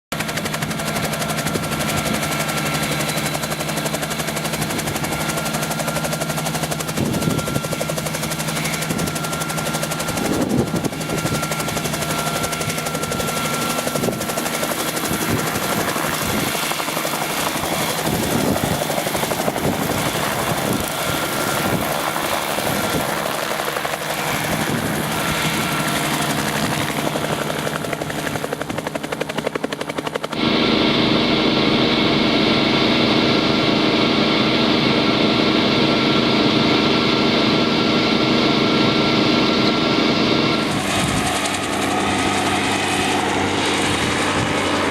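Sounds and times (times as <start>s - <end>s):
helicopter rotor and engine chopping: 0.1s - 44.9s.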